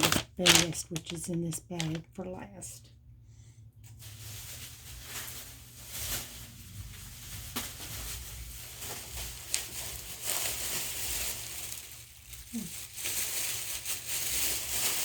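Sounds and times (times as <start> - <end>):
shopping bag rustling: 0.0 - 2.1, 4.0 - 15.0.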